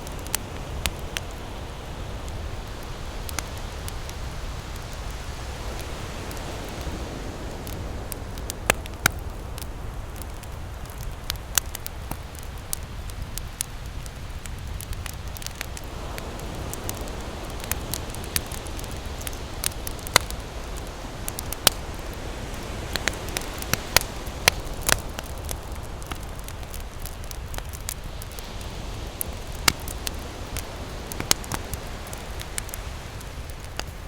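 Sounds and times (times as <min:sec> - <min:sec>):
campfire crackling and popping: 0:00.0 - 0:34.0
ocean waves rumbling: 0:00.0 - 0:34.0.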